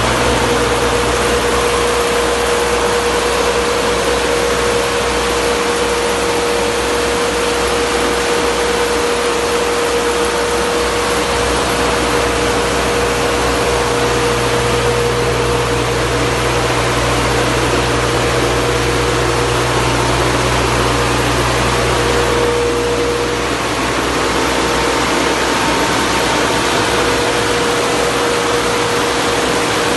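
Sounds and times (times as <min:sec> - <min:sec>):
generator engine drone: 0:00.0 - 0:29.9
low hum: 0:00.0 - 0:29.9.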